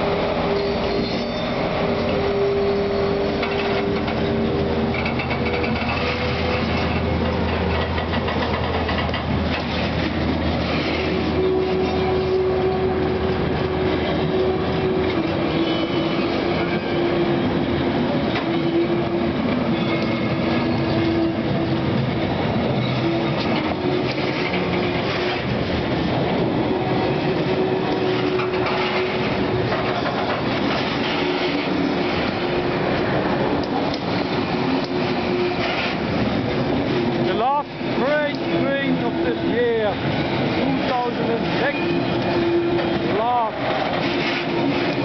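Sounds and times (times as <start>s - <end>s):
diesel locomotive engine hum: 0.0s - 45.0s
train wheels clattering on rails: 0.0s - 45.0s.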